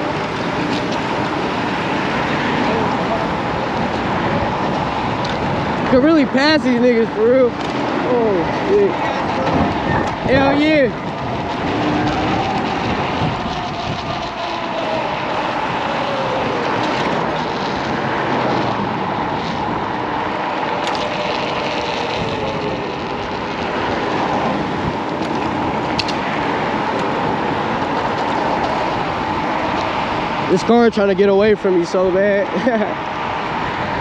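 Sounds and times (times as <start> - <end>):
scooter road noise: 0.0 - 34.0
wind buffeting microphone: 0.0 - 34.0.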